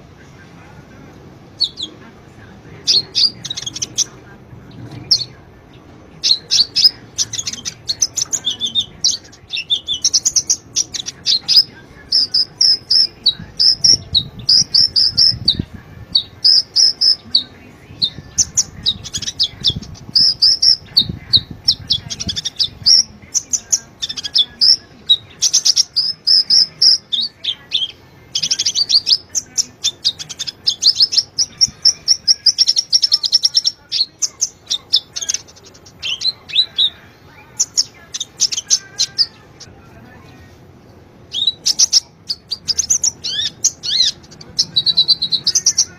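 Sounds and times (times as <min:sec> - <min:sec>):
sunbird singing high chirps: 0:01.5 - 0:02.0, 0:02.8 - 0:39.7, 0:41.3 - 0:45.9.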